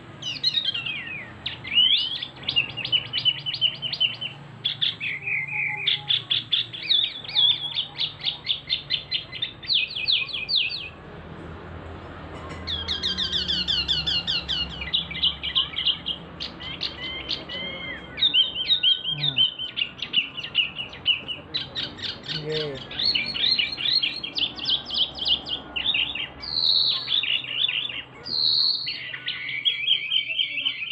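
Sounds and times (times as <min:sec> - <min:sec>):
songbird singing: 0:00.0 - 0:30.9.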